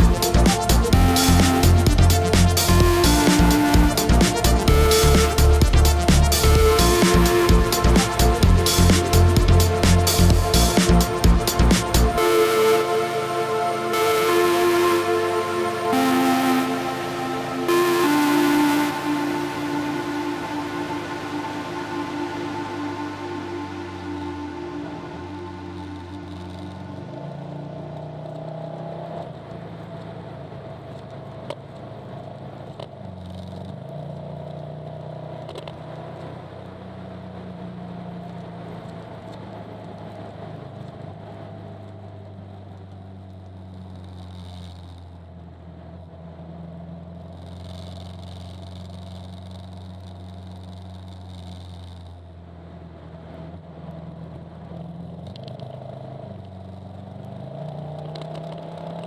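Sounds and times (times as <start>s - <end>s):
motorcycle engine droning: 0.0s - 59.0s.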